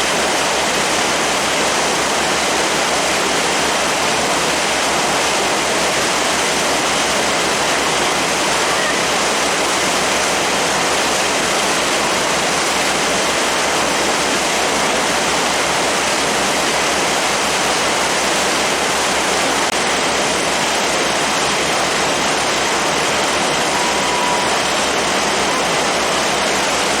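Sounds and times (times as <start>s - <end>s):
water rushing past hull: 0.0s - 27.0s.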